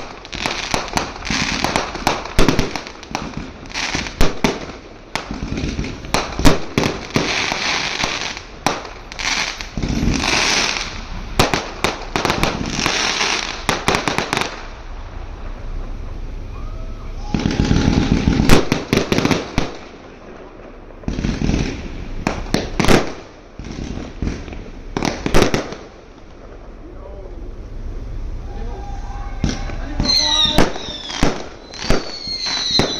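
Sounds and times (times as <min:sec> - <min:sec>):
fireworks bangs: 0:00.0 - 0:32.9
fireworks crackling: 0:00.0 - 0:32.9.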